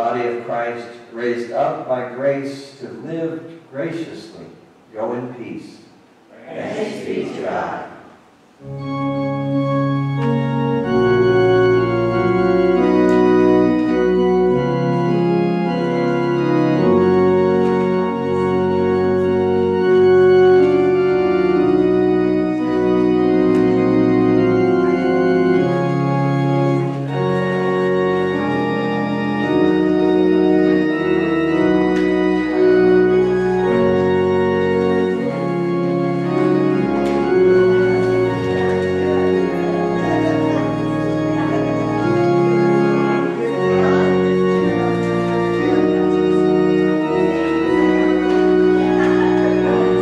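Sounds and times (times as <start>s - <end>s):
organ playing a hymn: 0.0s - 5.7s, 6.9s - 50.0s.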